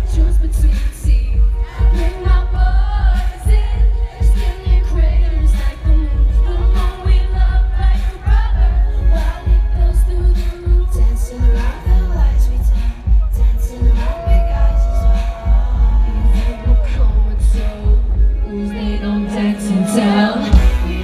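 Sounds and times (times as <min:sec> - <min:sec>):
heavy bass beat: 0:00.0 - 0:18.6, 0:20.5 - 0:21.0
live pop music over pa: 0:00.0 - 0:21.0
woman singing lead vocal: 0:00.0 - 0:21.0.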